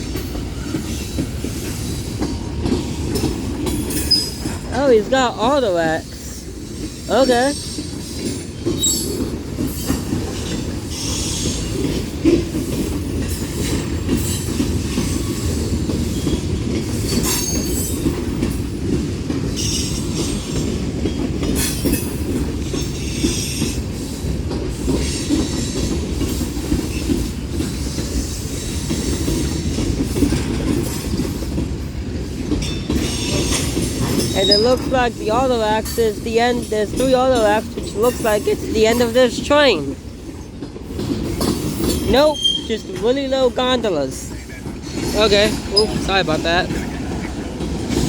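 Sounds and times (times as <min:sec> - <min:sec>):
train clatter: 0:00.0 - 0:48.0
train wheels rumbling on rail: 0:00.0 - 0:48.0.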